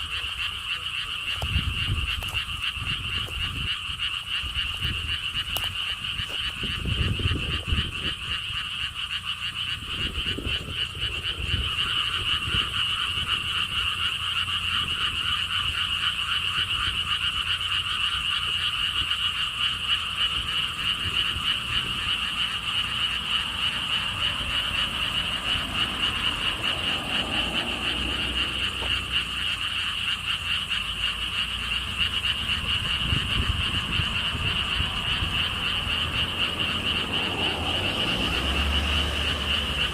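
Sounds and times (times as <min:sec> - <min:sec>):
frogs trilling: 0:00.0 - 0:39.9
wind rumbling on microphone: 0:00.0 - 0:39.9.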